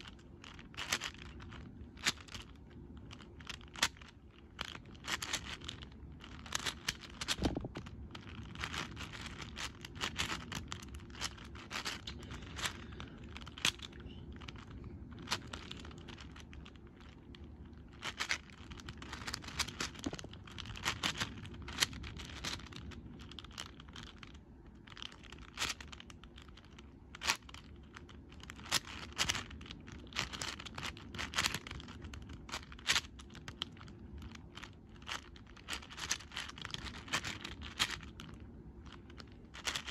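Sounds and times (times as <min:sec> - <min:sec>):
puzzle cube clacking and clicking: 0:00.5 - 0:24.2, 0:25.0 - 0:38.1.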